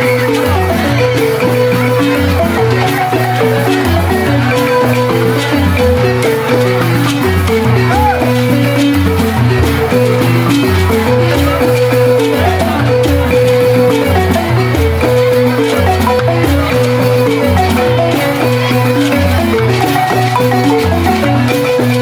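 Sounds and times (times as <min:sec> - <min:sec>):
balafon melody: 0:00.0 - 0:22.0
rattling high percussion: 0:00.0 - 0:22.0.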